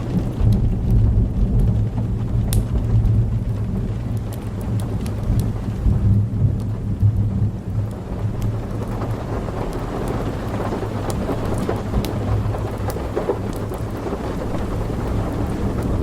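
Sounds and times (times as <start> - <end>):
log fire popping and crackling: 0.0 - 16.0
low rumble of thunder: 0.0 - 16.0
steady rain: 0.0 - 16.0.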